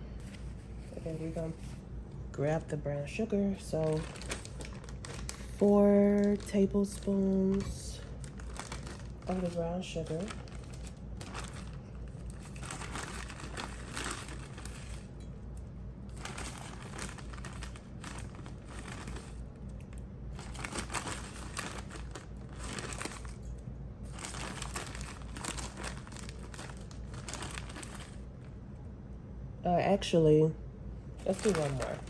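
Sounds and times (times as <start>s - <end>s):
packaging crinkling and rustling: 3.1s - 28.6s, 31.2s - 32.0s.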